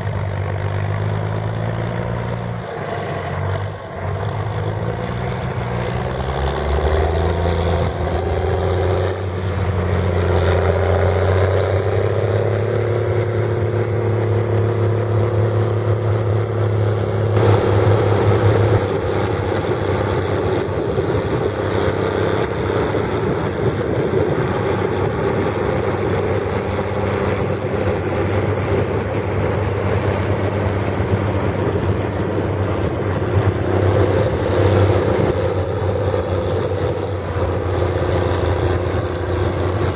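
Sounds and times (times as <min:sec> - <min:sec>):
tractor diesel engine drone: 0:00.0 - 0:39.9.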